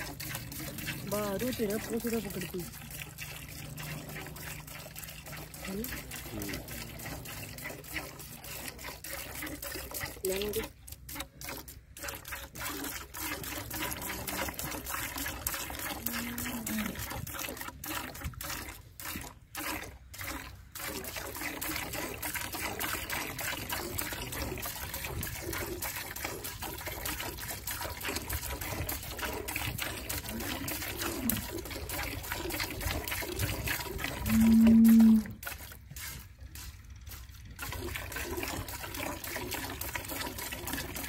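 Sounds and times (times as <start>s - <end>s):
milk squirting into a pail: 0.0s - 41.0s.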